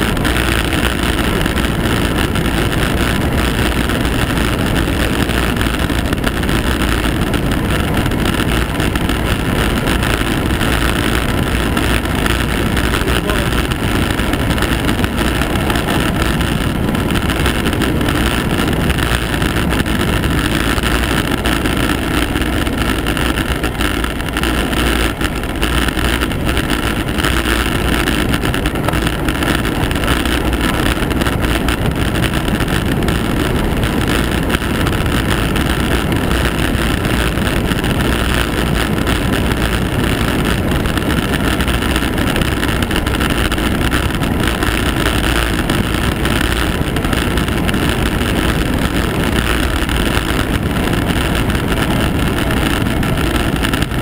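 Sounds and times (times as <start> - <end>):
vehicle running noise: 0.0 - 54.0
wind rushing over microphone: 0.0 - 54.0.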